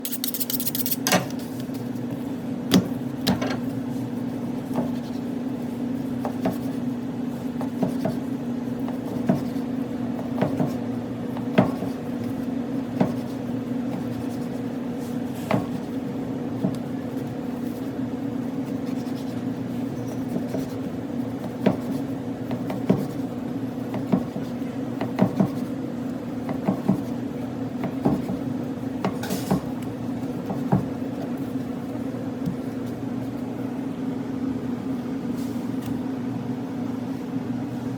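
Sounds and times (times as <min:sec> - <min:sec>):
electrical hum: 0:00.0 - 0:37.9.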